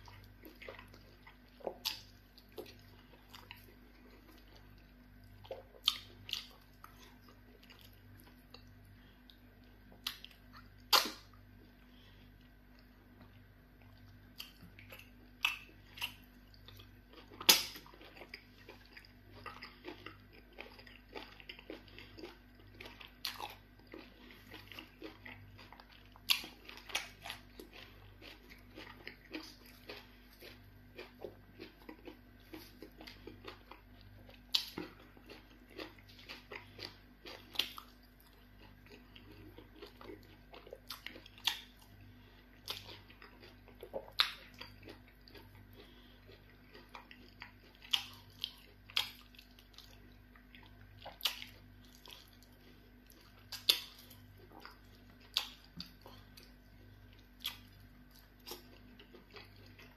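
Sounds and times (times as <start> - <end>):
chewing with wet mouth smacks: 0.0 - 59.9
faint steady hum: 0.0 - 59.9.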